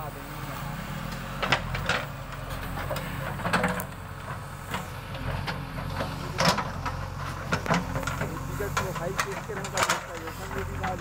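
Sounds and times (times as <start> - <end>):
diesel engine running: 0.0 - 11.0
sharp knocks and scrapes: 1.4 - 11.0.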